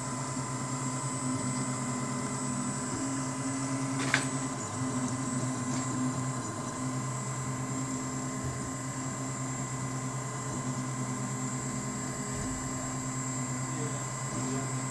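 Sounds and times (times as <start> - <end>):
three d printer humming and whirring: 0.0 - 14.9.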